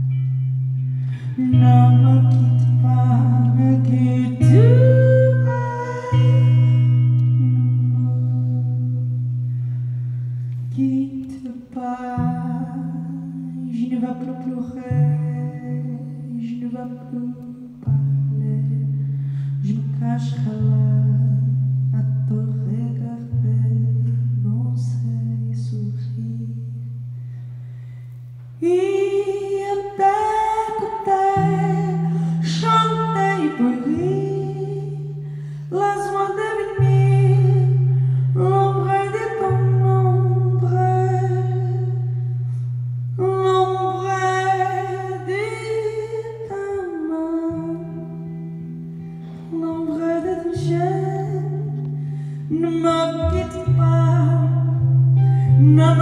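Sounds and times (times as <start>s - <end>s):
woman singing: 0.0s - 9.5s, 10.5s - 19.0s, 19.6s - 27.1s, 28.6s - 56.0s
electric guitar low chords: 0.0s - 56.0s.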